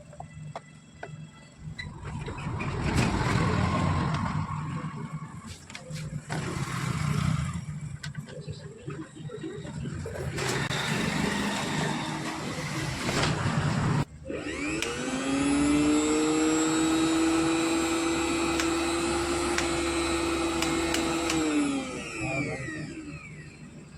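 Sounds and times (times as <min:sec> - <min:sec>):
mixer grinder motor whirring: 0:01.6 - 0:23.9.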